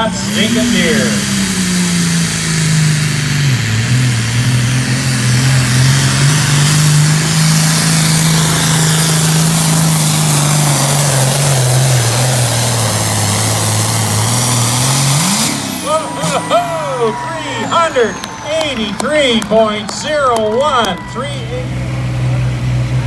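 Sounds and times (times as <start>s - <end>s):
tractor diesel engine at full throttle: 0.0s - 23.0s.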